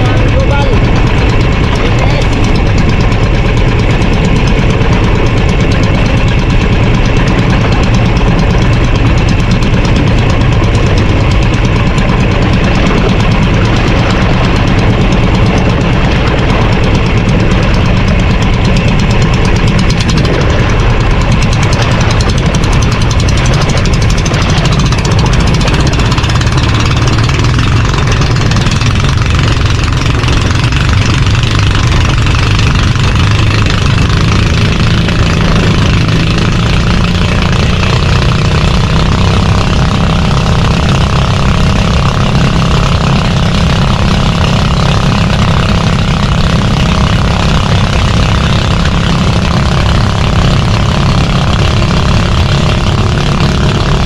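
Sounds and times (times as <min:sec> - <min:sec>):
boat engine running loudly: 0:00.0 - 0:54.0
constant rushing noise: 0:00.0 - 0:54.0.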